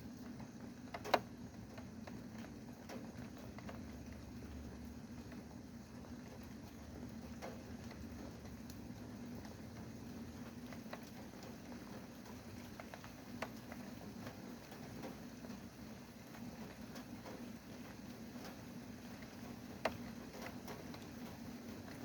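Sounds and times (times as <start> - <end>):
rain hiss: 0.0 - 22.0
raindrops tapping: 0.0 - 22.0.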